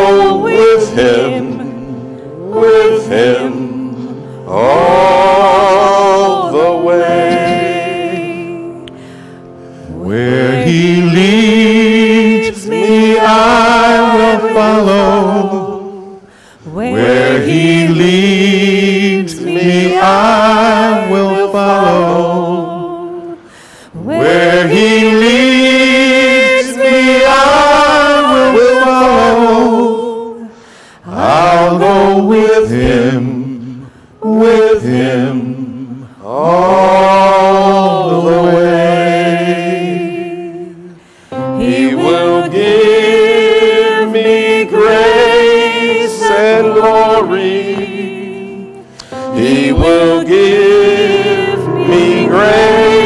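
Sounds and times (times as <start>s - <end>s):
choir singing a hymn: 0.0s - 9.2s, 9.8s - 53.0s.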